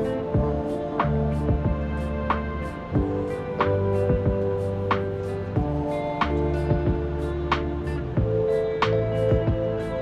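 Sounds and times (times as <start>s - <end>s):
plucked notes: 0.0s - 10.0s.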